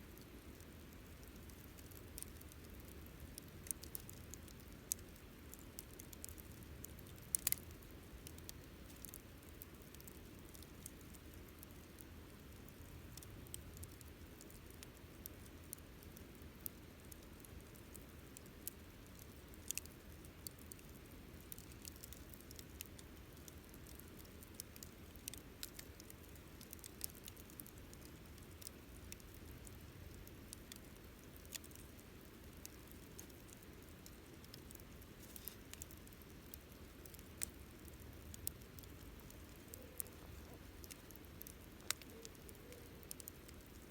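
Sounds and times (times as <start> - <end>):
campfire crackling and popping: 0.1 - 43.9.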